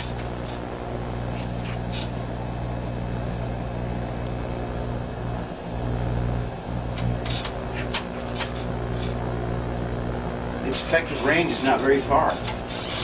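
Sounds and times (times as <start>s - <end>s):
deep electrical hum: 0.0s - 13.0s.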